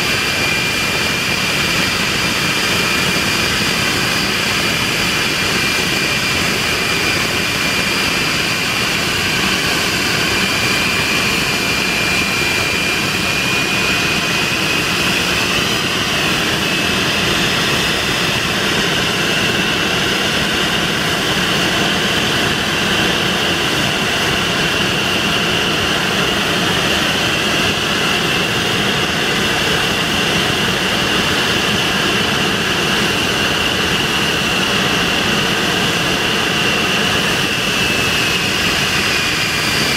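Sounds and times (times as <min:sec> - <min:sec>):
jet engine running with high whine: 0:00.0 - 0:39.9.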